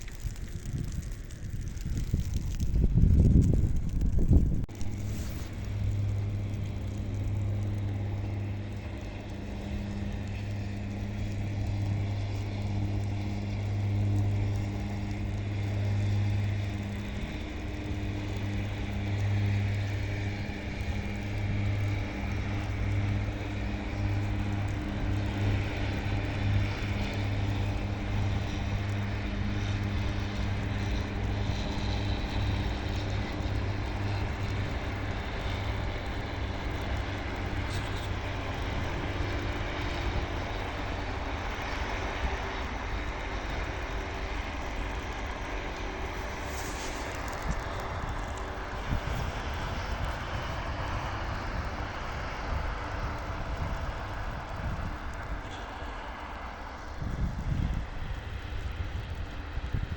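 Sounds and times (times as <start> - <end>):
diesel truck engines humming: 3.3 - 59.9.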